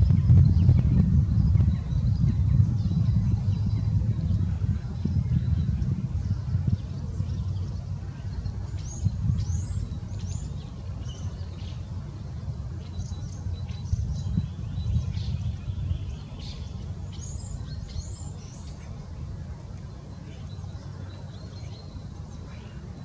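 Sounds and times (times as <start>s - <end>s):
small songbirds chirping: 0.0s - 23.0s
steady low rumble: 0.0s - 23.0s.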